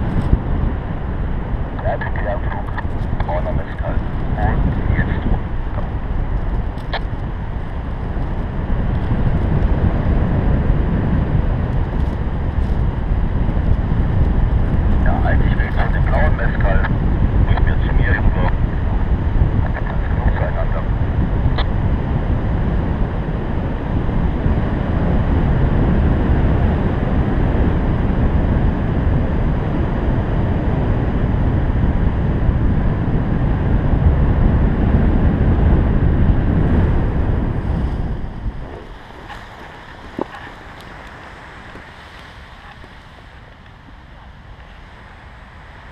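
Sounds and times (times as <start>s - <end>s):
wind rushing on microphone: 0.0s - 45.9s.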